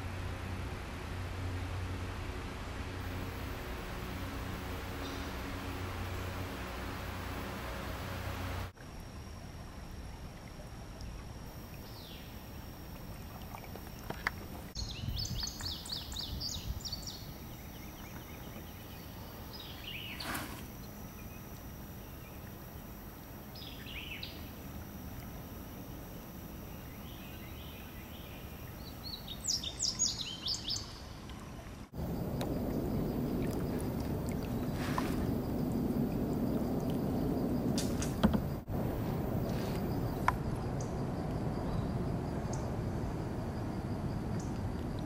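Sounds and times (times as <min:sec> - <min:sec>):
steady low hiss: 0:00.0 - 0:45.0
water noise: 0:00.0 - 0:45.0
wild birds chirping: 0:03.1 - 0:08.7, 0:11.0 - 0:44.6.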